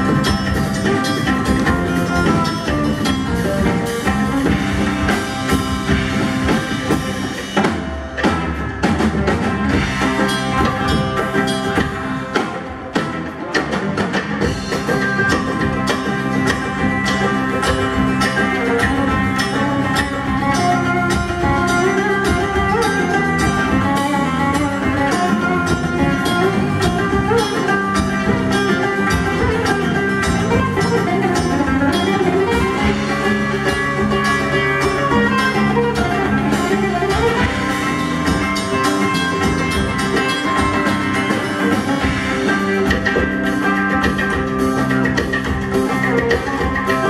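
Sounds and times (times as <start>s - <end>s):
electric bass guitar: 0.0s - 47.0s
electric guitar: 0.0s - 47.0s
quick percussion strikes: 0.0s - 47.0s.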